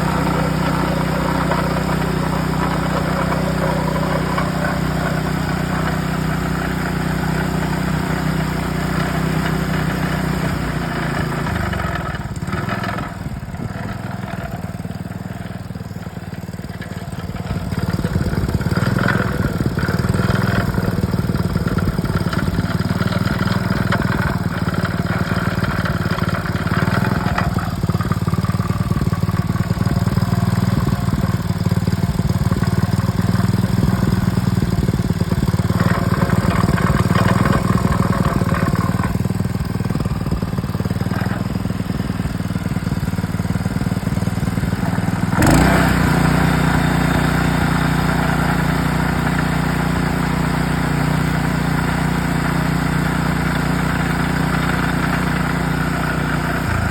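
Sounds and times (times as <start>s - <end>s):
pump engine running: 0.0s - 56.9s.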